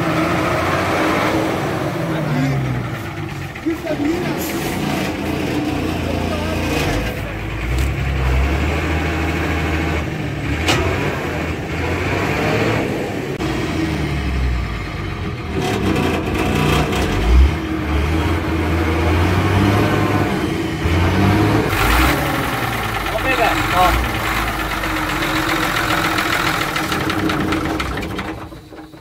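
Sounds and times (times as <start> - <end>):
bus diesel engine revving: 0.0 - 29.0.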